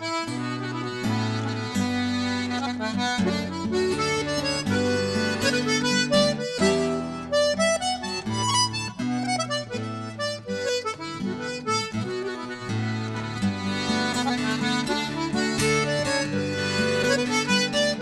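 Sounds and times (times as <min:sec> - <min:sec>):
button accordion playing a tune: 0:00.0 - 0:18.0.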